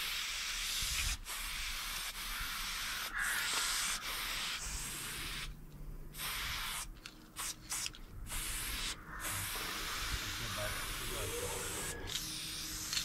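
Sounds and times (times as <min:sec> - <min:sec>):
spray paint can hissing: 0:00.0 - 0:13.0.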